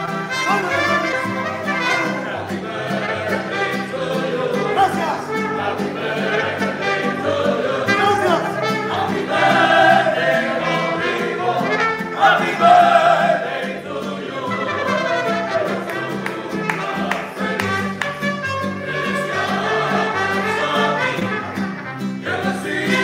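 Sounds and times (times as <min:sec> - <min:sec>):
trumpets: 0:00.0 - 0:13.7, 0:14.3 - 0:23.0
strummed guitars: 0:00.0 - 0:23.0
violins: 0:00.0 - 0:23.0.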